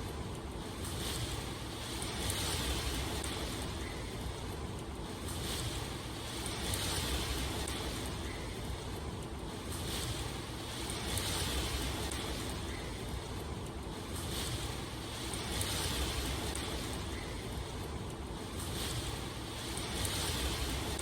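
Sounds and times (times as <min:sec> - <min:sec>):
rushing water: 0:00.8 - 0:13.3, 0:14.0 - 0:21.0.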